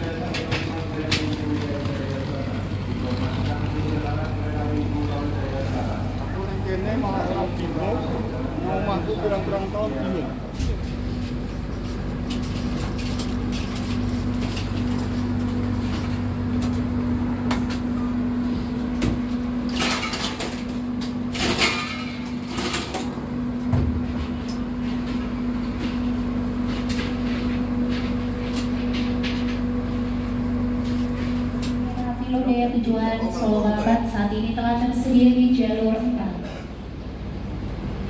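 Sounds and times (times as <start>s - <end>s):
train carriage hum: 0.0s - 38.0s.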